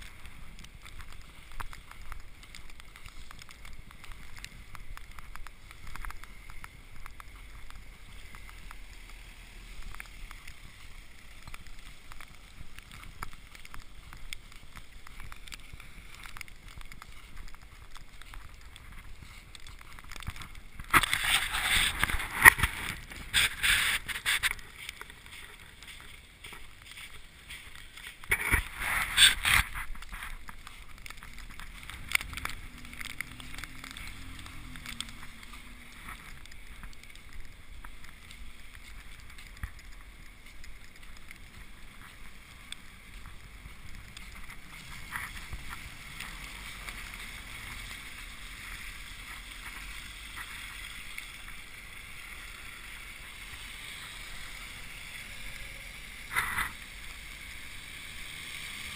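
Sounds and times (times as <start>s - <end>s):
footsteps crunching through snow: 0.0s - 56.8s.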